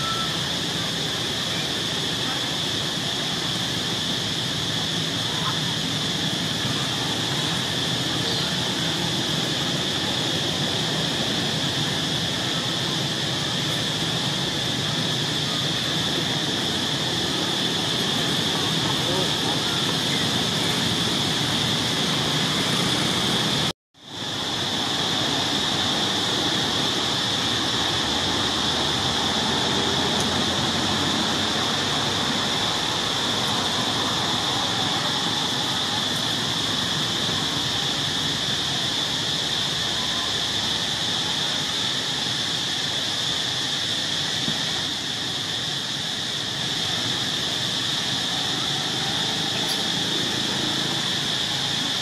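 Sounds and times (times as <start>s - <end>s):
outdoor ambience hiss: 0.0s - 52.0s
shrill insect chorus: 0.0s - 52.0s.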